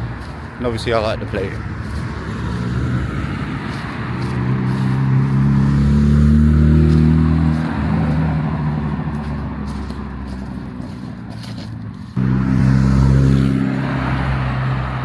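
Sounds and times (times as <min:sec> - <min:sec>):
car accelerating: 0:01.1 - 0:15.0.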